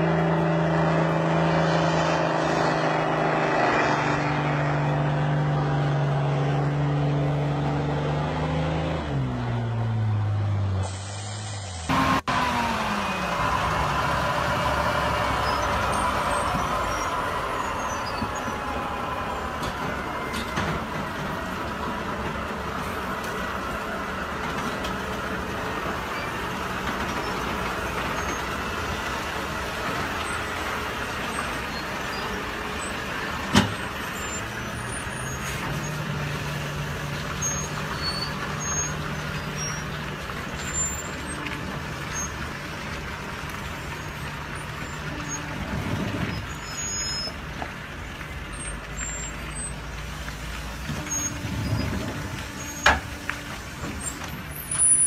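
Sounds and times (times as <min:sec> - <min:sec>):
diesel truck engine running slowly: 0:00.0 - 0:55.0.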